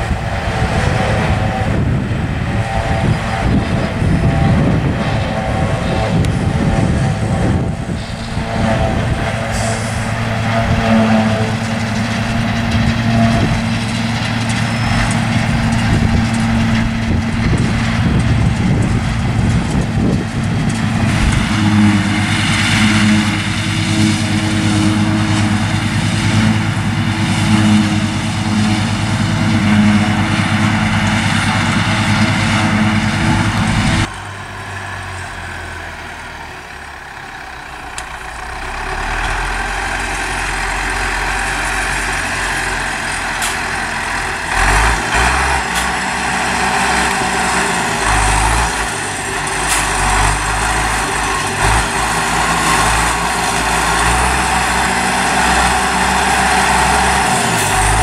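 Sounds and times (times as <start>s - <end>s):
distant engine: 0.0s - 58.0s
forage harvester diesel engine: 0.0s - 58.0s
tractor engine running: 0.0s - 58.0s.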